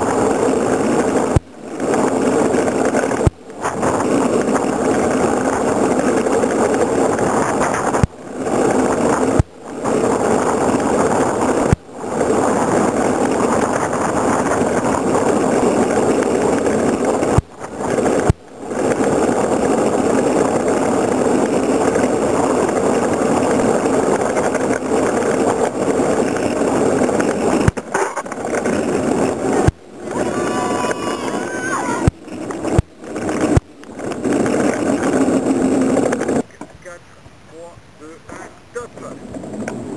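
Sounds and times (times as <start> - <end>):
cart wheels rumbling on asphalt: 0.0 - 39.9.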